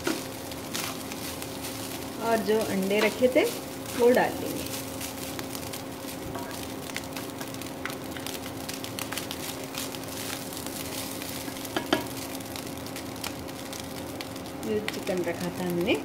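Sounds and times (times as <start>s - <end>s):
rice sizzling in a wok: 0.0s - 16.0s
steady low hum: 0.0s - 16.0s.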